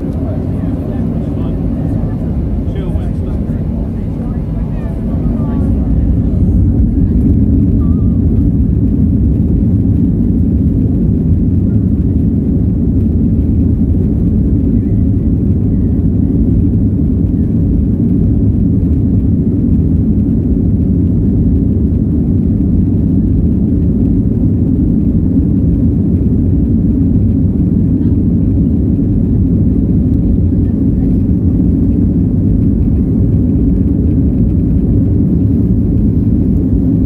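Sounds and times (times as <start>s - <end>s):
jet engines idling in cabin: 0.0s - 37.0s.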